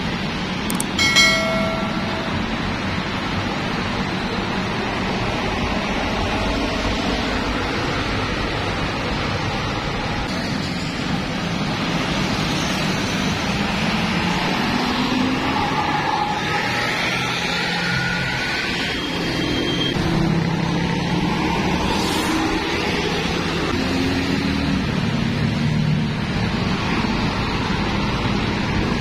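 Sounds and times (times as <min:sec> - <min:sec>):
bus engine passing close: 0:00.0 - 0:29.0
road traffic passing: 0:00.0 - 0:29.0.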